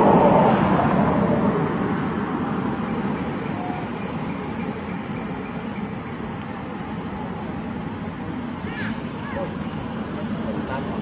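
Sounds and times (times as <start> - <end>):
high-pitched hiss: 0.0 - 11.0
steady rumbling noise: 0.0 - 11.0.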